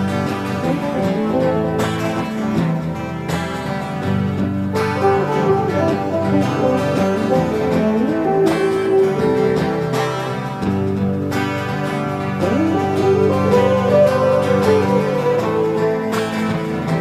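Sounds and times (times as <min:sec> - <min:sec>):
guitar-led instrumental music: 0:00.0 - 0:17.0.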